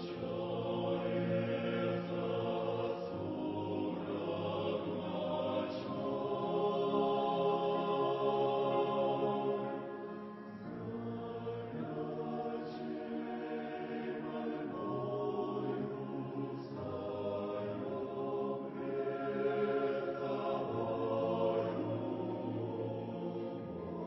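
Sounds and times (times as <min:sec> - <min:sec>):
choir singing slow hymn: 0:00.0 - 0:24.0.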